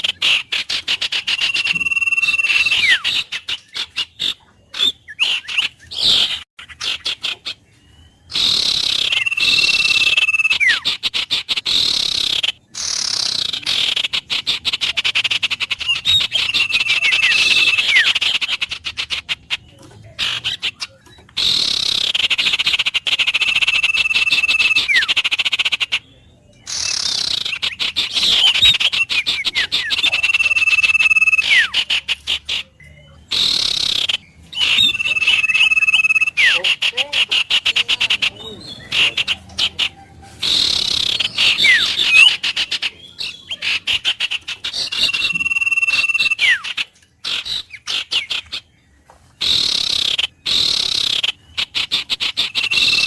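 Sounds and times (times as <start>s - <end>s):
wild birds chattering and whistling: 0.0s - 53.0s.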